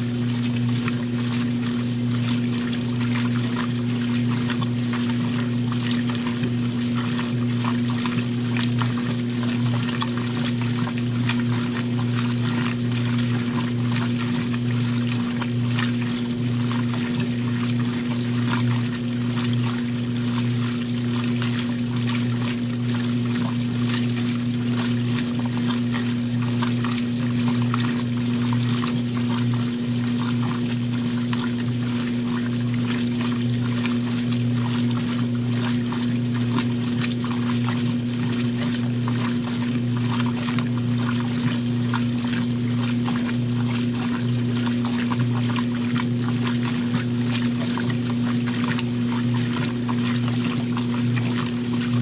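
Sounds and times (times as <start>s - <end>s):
low electrical hum: 0.0s - 52.0s
water pouring and splashing: 0.0s - 52.0s.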